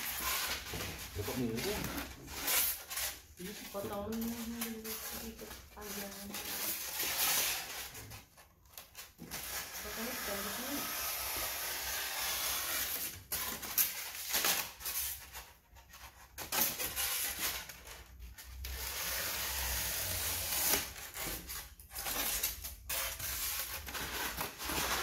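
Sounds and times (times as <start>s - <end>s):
foam scraping against cardboard: 0.0s - 8.3s, 9.2s - 18.0s, 18.6s - 25.0s.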